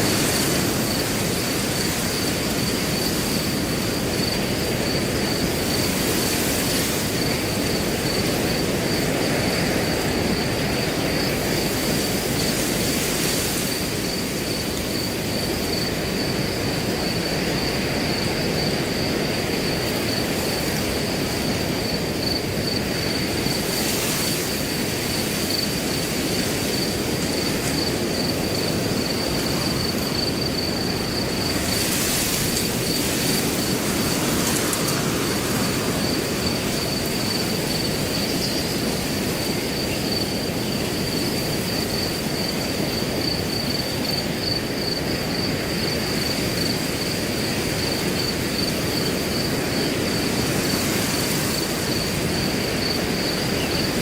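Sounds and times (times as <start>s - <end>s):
crickets trilling: 0.0s - 54.0s
wind blowing through grass: 0.0s - 54.0s.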